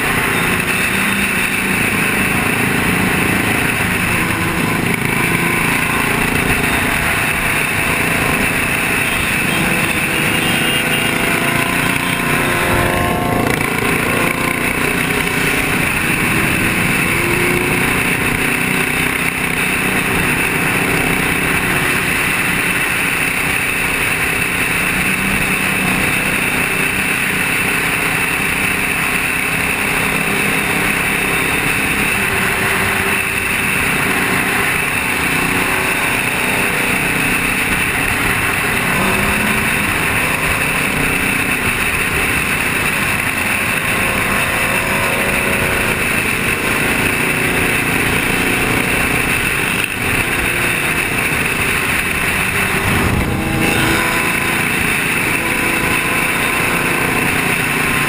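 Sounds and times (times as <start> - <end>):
motorcycle engines droning: 0.0 - 58.0.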